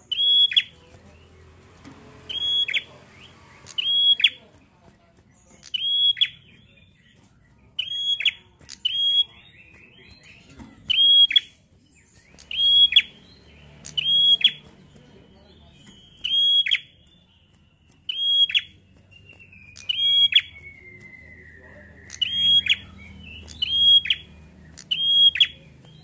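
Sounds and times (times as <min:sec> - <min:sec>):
bird scratchy chattering: 0:00.0 - 0:26.0.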